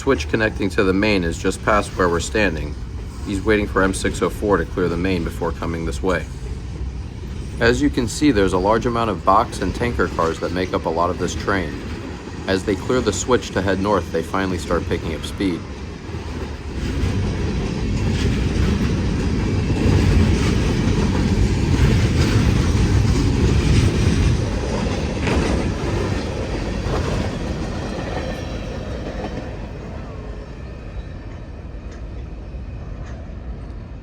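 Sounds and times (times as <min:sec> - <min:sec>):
freight train rumble: 0:00.0 - 0:34.0
train wheels clacking on rails: 0:00.0 - 0:34.0.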